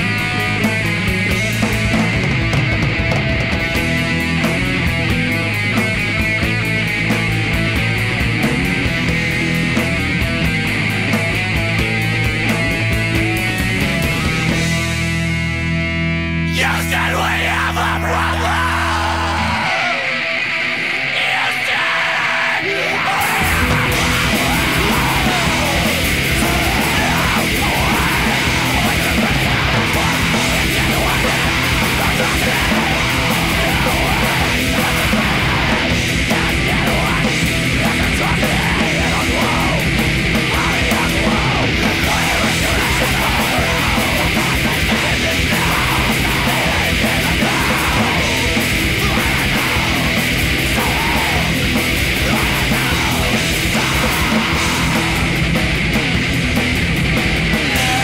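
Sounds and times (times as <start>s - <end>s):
distorted rock song: 0.0s - 58.0s.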